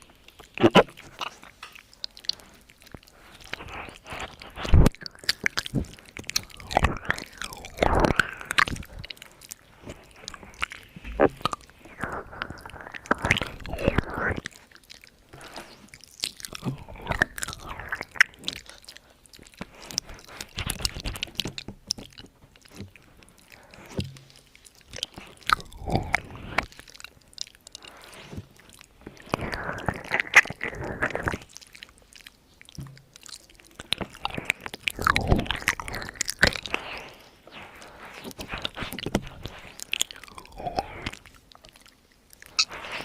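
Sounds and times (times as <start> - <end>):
wet mouth clicks and smacks: 0.0 - 43.0.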